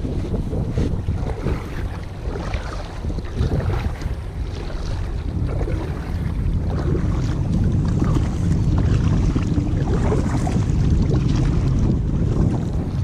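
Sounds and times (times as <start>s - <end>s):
faint paddle water splashes: 0.0s - 13.0s
wind buffeting microphone: 0.0s - 13.0s.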